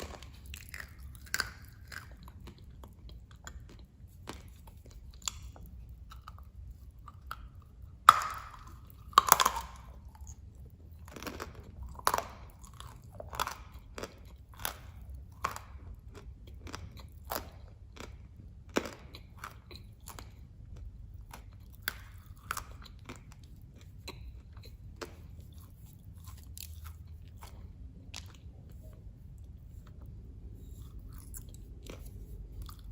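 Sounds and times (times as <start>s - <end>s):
crunchy chewing of dry clay: 0.0s - 32.9s.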